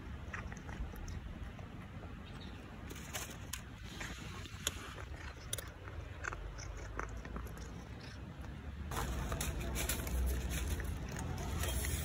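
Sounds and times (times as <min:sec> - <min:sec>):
cats crunching dry kibble: 0:00.0 - 0:12.0.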